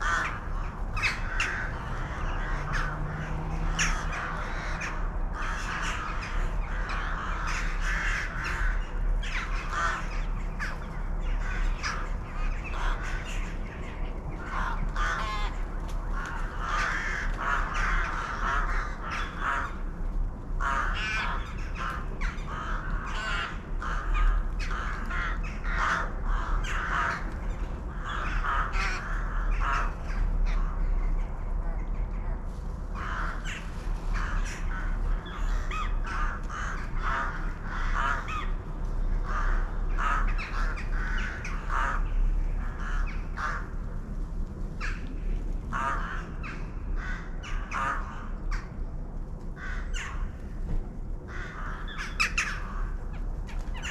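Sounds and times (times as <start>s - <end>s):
birds calling: 0.0s - 19.9s, 20.6s - 43.8s, 44.7s - 48.8s, 51.3s - 53.9s
steady low rumble: 0.0s - 53.9s.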